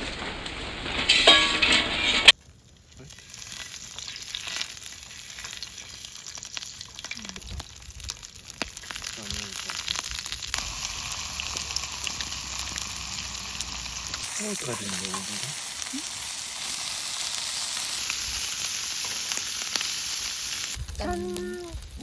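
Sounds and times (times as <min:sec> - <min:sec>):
food sizzling in a pan: 0:02.8 - 0:22.0.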